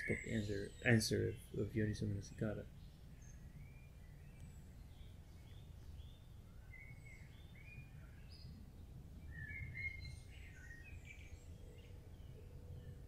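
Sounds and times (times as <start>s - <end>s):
low background rumble: 0.0s - 13.0s
songbirds chirping and whistling: 0.0s - 13.0s.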